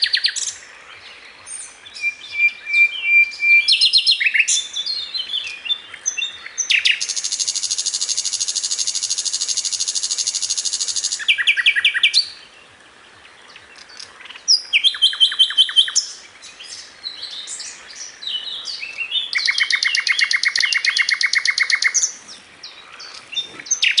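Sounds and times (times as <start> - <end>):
lovebirds chirping: 0.0 - 24.0.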